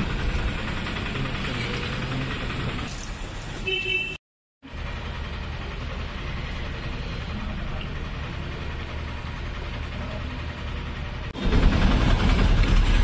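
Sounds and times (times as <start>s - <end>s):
low engine-like hum: 0.0s - 3.5s, 4.6s - 13.0s
busy outdoor sound: 0.0s - 4.0s, 4.6s - 11.6s.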